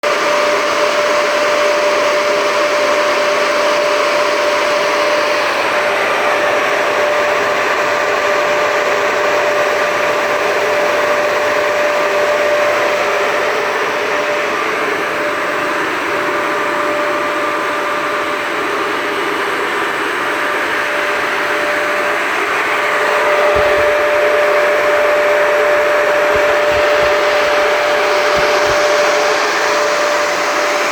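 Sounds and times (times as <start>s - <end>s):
industrial fan running: 0.1s - 30.9s.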